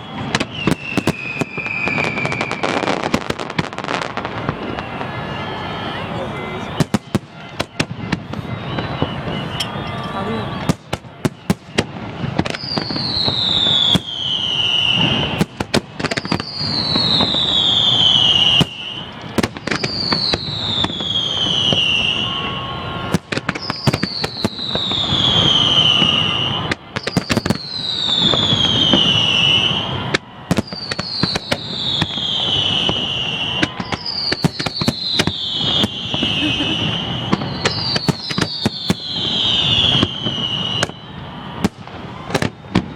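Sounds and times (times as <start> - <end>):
descending firework whistle: 0.0 - 42.9
fireworks bangs and crackles: 0.0 - 42.9.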